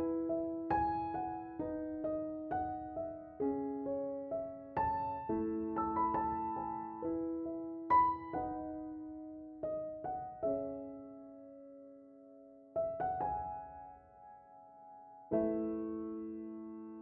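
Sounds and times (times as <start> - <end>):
soft piano notes: 0.0 - 17.0.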